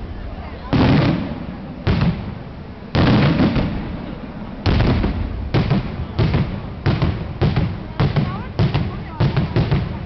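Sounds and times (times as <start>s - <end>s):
fireworks bursting with rumbling tail: 0.0s - 10.0s.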